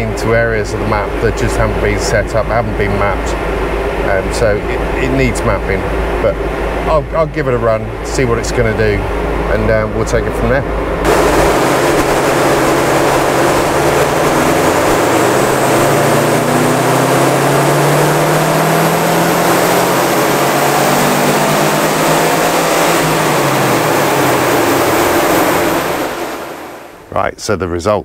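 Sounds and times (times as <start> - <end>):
car engine revving at full throttle: 0.0 - 27.1.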